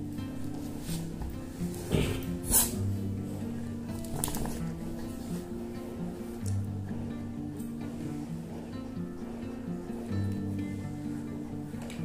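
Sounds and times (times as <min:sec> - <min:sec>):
background music with low notes: 0:00.0 - 0:12.0.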